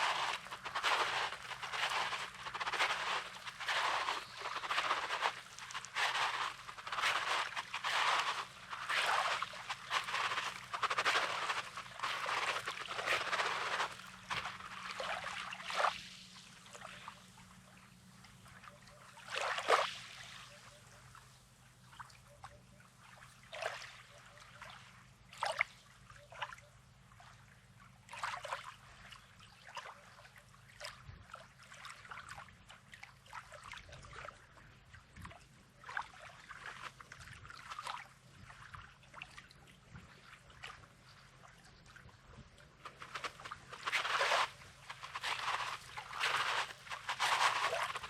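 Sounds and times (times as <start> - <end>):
small waves lapping on shore: 0.0 - 17.6, 18.5 - 20.6, 27.1 - 48.0.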